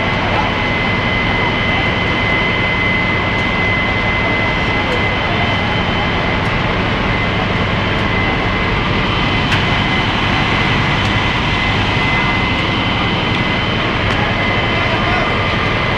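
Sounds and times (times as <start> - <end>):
fire truck engines droning: 0.0 - 15.9
high-pitched whine: 0.0 - 15.9.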